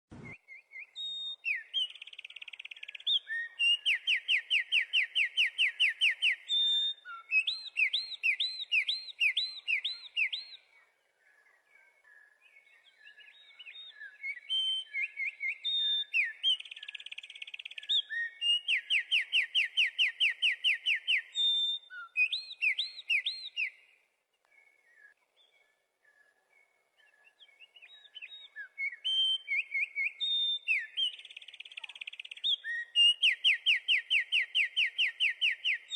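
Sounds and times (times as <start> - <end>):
songbird singing: 0.1 - 35.9.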